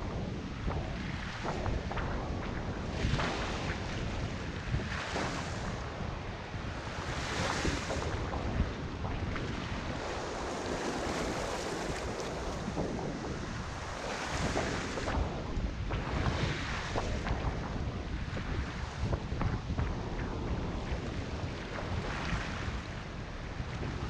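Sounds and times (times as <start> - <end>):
waves splashing against rocks: 0.0 - 24.0
wind rumbling on microphone: 0.0 - 24.0.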